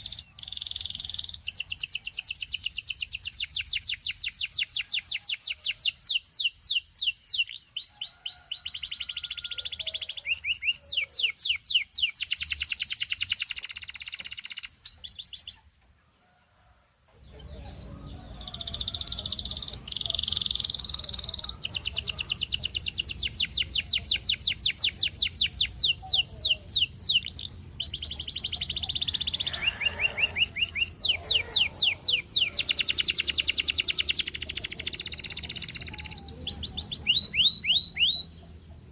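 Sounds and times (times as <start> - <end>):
canary singing trills: 0.0 - 15.7, 17.2 - 38.9.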